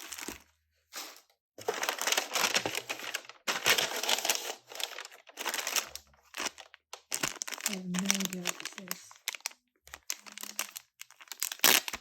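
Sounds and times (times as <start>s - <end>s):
packaging crinkling: 0.0s - 0.4s, 1.6s - 12.0s.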